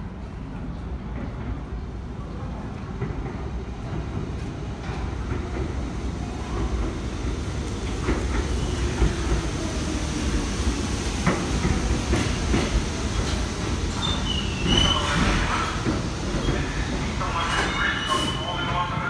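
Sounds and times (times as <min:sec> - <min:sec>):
subway train rumbling: 0:00.0 - 0:19.0.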